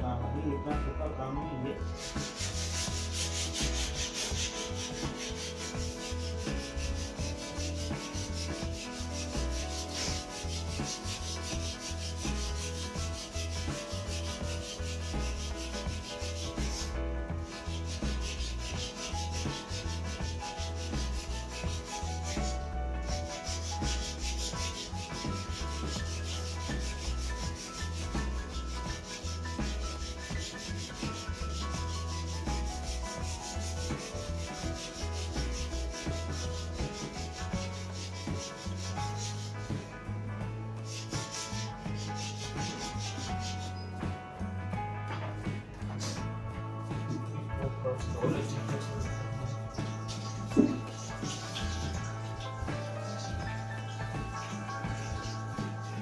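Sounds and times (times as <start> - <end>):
sandpaper rubbing on wood: 1.8 - 40.0, 40.6 - 44.2, 45.8 - 46.3, 46.9 - 56.0.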